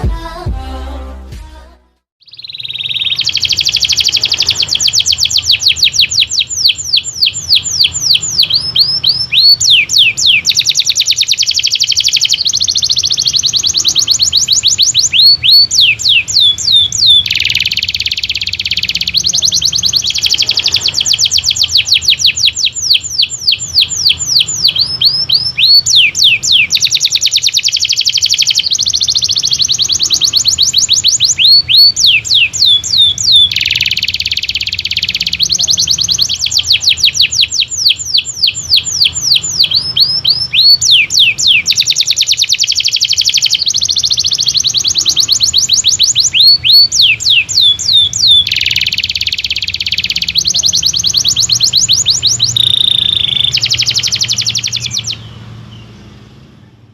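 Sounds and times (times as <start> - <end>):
canary singing trills: 2.2 - 56.9.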